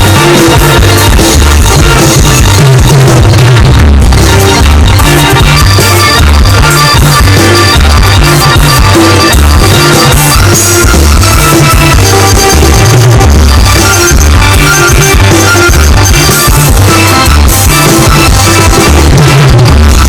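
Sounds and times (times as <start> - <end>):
live band playing amplified music: 0.0 - 20.0.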